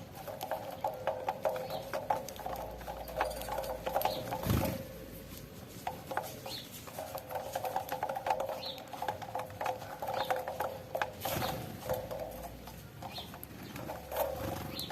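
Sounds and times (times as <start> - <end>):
birds pecking clicks: 0.0 - 14.9.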